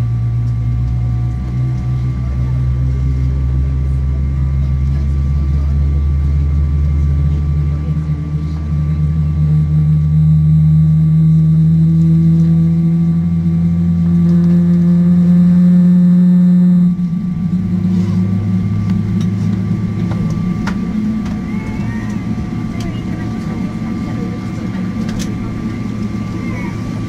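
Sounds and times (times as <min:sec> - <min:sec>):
jet engine whine: 0:00.0 - 0:27.0.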